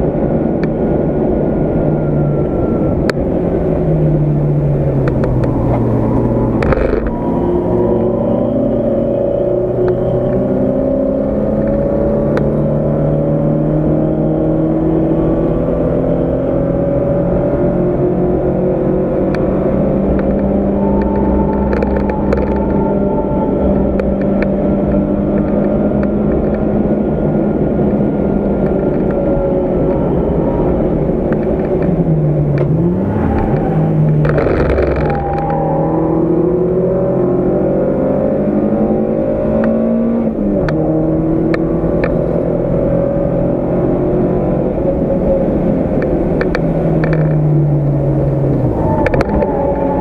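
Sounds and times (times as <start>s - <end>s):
car engine at speed: 0.0s - 50.0s.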